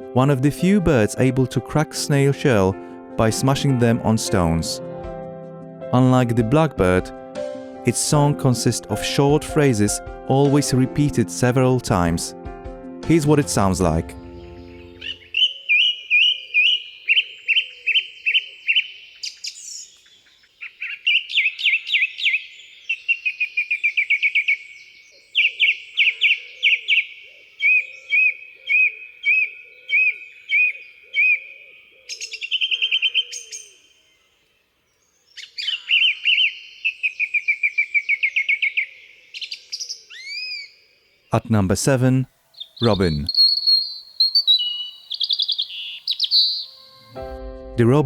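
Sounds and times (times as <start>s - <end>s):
song thrush singing: 0.0s - 5.1s, 5.7s - 48.0s.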